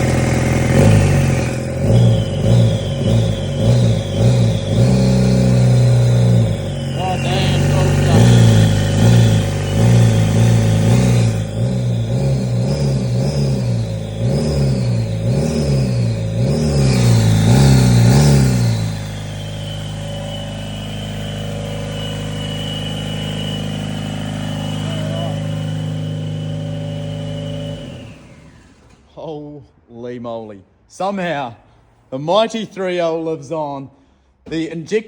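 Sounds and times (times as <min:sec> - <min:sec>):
diesel engine revving and idling: 0:00.0 - 0:29.1.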